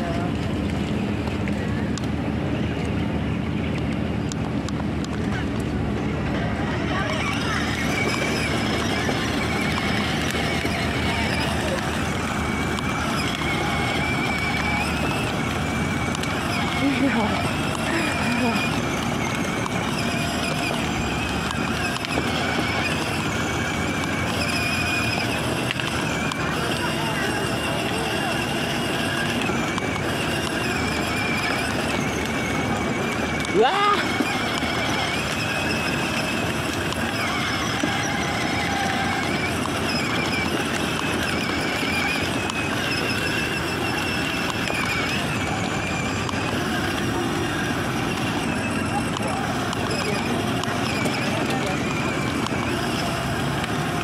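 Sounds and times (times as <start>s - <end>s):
plastic wheels rumbling on asphalt: 0.0s - 54.0s
small electric motor running: 3.4s - 54.0s.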